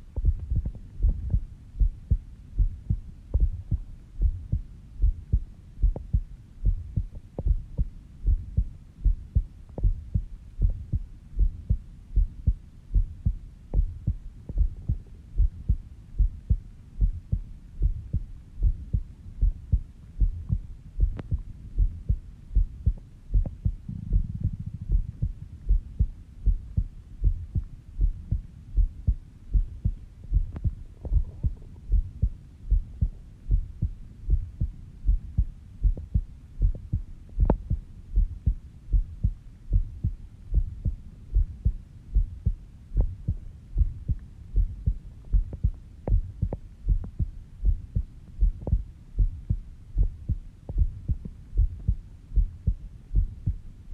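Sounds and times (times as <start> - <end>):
heartbeat: 0.0 - 53.7.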